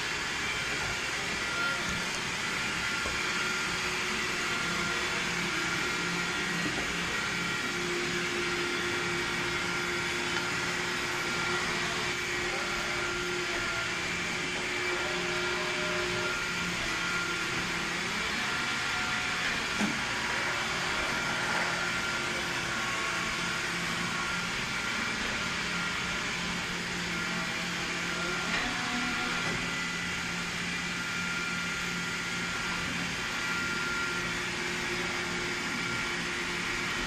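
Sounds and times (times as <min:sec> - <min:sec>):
robot vacuum running: 0:00.0 - 0:37.0.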